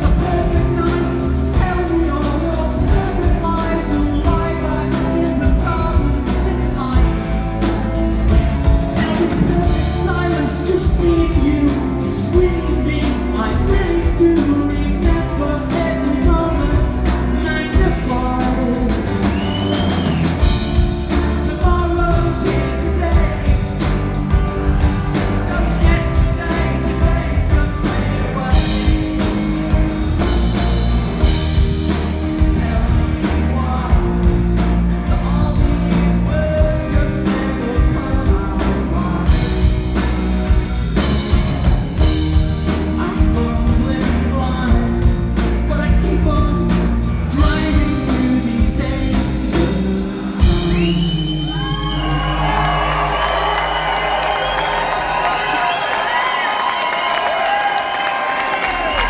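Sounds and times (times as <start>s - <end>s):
man singing: 0.0s - 30.4s, 31.2s - 40.2s, 42.0s - 53.4s
live rock band: 0.0s - 59.0s.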